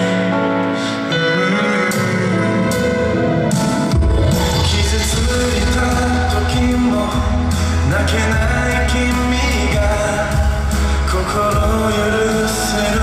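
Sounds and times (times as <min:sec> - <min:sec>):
pop song singing over backing track: 0:00.0 - 0:13.0.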